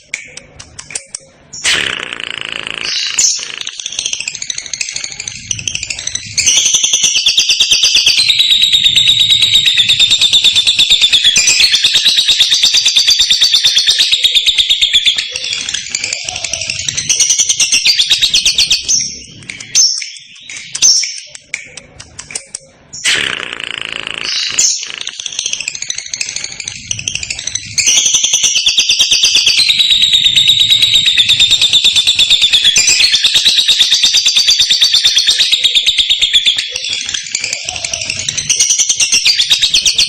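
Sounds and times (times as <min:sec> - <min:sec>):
bird chattering trill: 0:00.0 - 0:40.0
bird chirps: 0:00.0 - 0:40.0.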